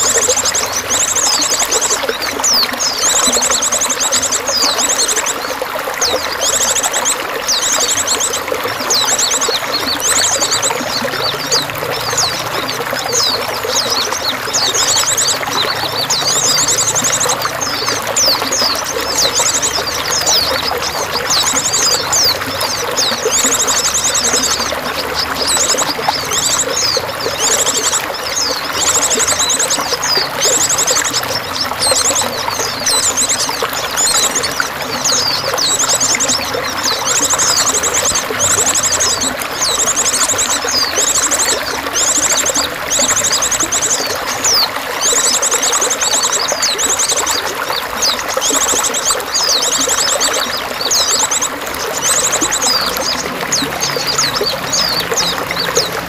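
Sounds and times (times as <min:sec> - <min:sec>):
running water trickling: 0:00.0 - 0:56.0
songbirds chirping and trilling: 0:00.0 - 0:56.0.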